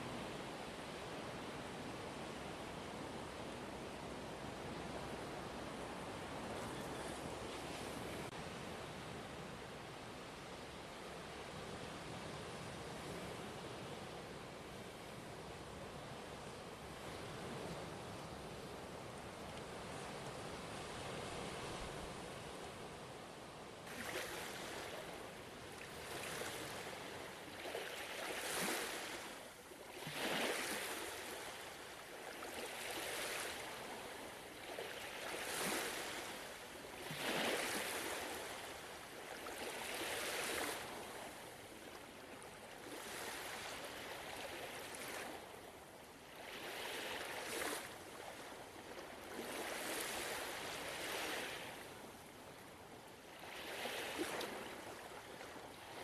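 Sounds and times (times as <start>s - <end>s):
gentle ocean waves on shore: 0.0s - 56.0s.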